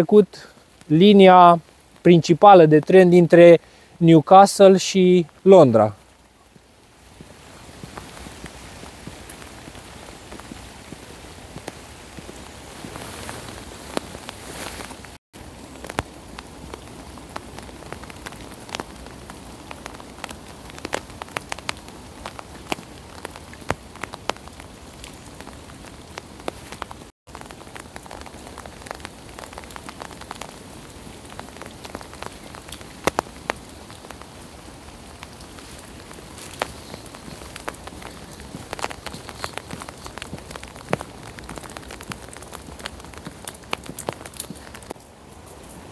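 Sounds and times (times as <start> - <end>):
steady rain falling: 0.0 - 45.9
raindrop ticks: 0.2 - 45.9.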